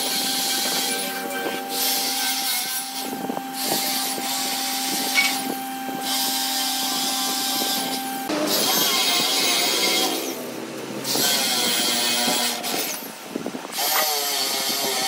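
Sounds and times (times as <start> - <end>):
electric drill boring into wood: 0.0 - 15.0.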